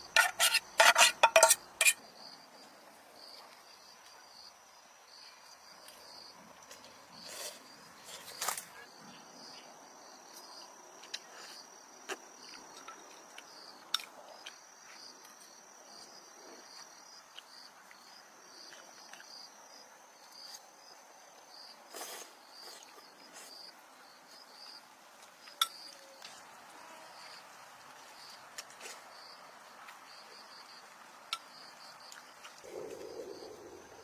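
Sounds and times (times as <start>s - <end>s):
insects chirping: 0.0s - 26.5s, 27.2s - 34.0s.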